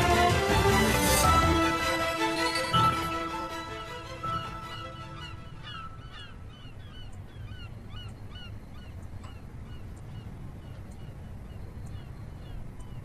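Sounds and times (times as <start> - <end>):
birds chirping: 1.4 - 13.0.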